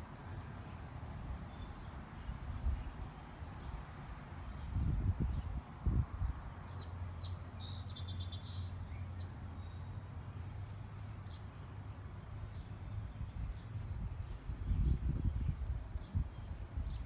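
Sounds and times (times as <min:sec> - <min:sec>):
small birds chirping: 0:01.5 - 0:11.7, 0:12.4 - 0:17.0.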